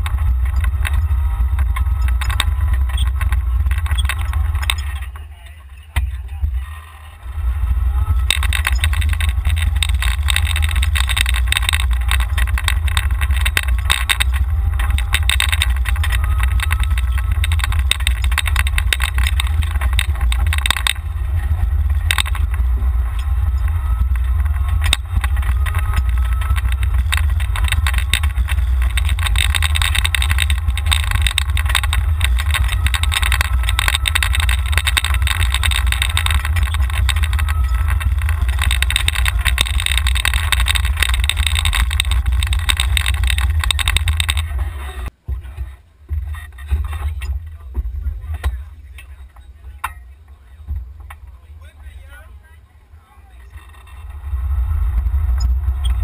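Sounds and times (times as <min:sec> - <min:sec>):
wind rumble on microphone: 0:00.0 - 0:05.2, 0:06.0 - 0:56.0
golf cart motor whine: 0:00.0 - 0:05.4, 0:06.0 - 0:45.2, 0:53.4 - 0:56.0
rattling: 0:00.0 - 0:52.4, 0:53.3 - 0:56.0.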